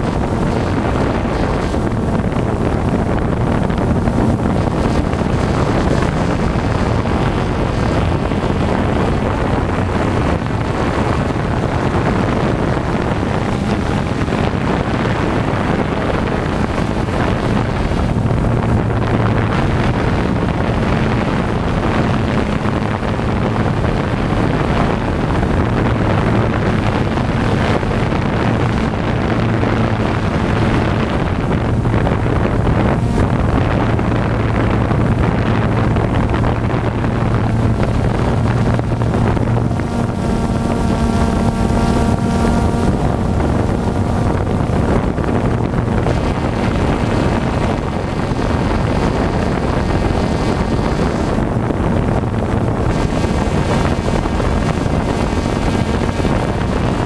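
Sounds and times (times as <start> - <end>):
drone propellers whirring: 0.0 - 57.0
wind noise on microphone: 0.0 - 57.0.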